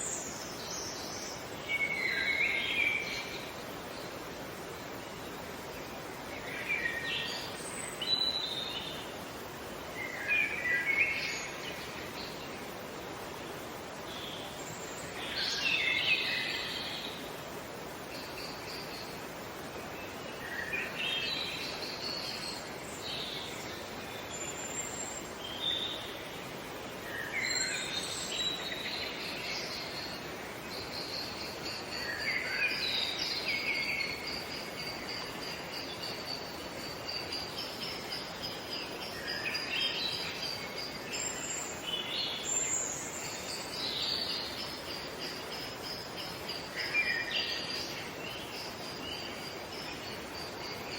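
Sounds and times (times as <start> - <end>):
outdoor background hiss: 0.0 - 50.9
songbirds twittering: 0.0 - 50.9.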